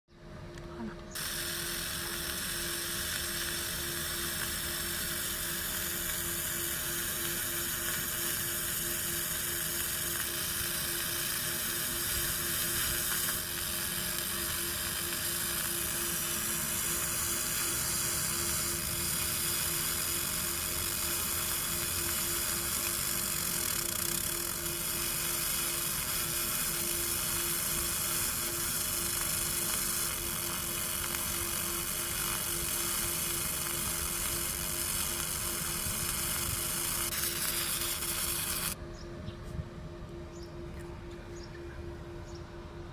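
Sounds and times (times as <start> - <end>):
laser marking machine hiss: 1.1 - 38.8
fast pulsing tone: 1.2 - 38.8.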